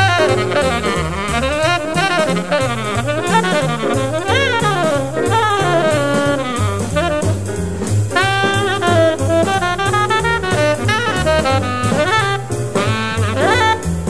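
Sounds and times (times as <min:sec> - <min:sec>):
drum kit: 0:00.0 - 0:14.0
tenor saxophone playing jazz: 0:00.0 - 0:14.0
walking bass line: 0:00.0 - 0:14.0.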